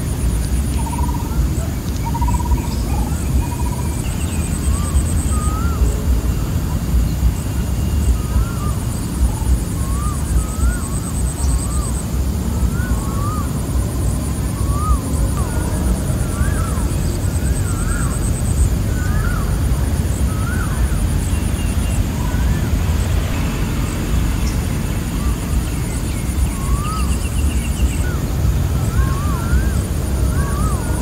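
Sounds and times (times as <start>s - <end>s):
bird calls: 0.0s - 31.0s
insect trills: 0.0s - 31.0s.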